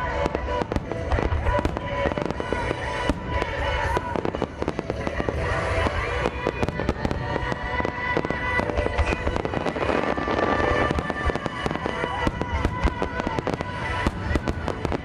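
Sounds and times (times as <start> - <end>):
music over loudspeakers: 0.0 - 15.0.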